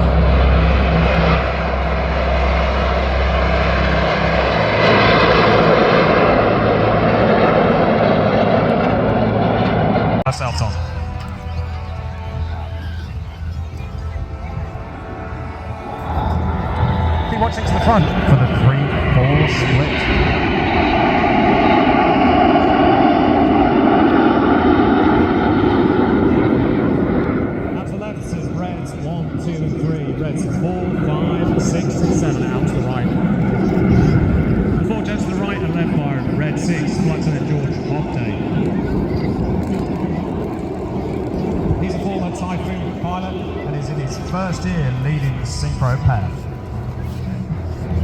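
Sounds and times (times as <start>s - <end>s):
jet engines rushing overhead: 0.0s - 48.0s.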